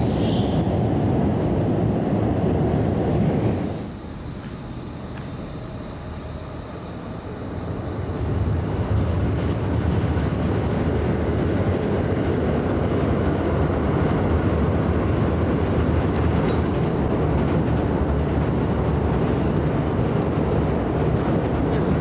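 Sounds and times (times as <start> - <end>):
train rumbling over steel bridge: 0.0 - 22.0.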